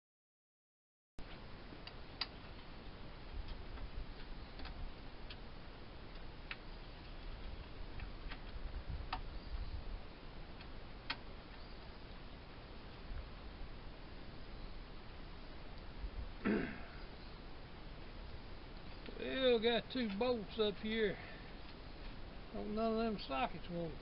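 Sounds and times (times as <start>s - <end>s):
low steady rumble: 1.2s - 24.0s.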